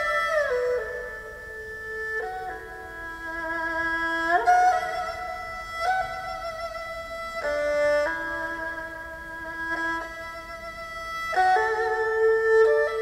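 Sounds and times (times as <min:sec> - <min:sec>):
bowed erhu notes: 0:00.0 - 0:13.0.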